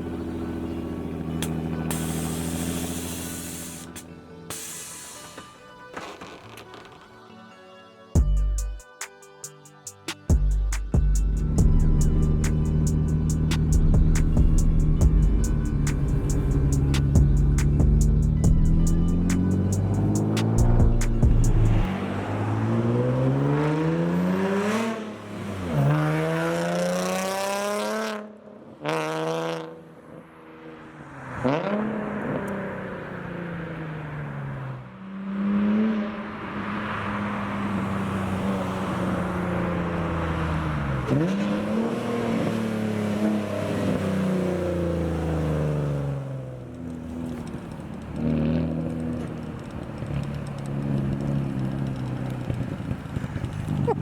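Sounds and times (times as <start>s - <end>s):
car engine accelerating hard: 0.0s - 4.0s, 11.2s - 29.8s, 31.3s - 54.0s.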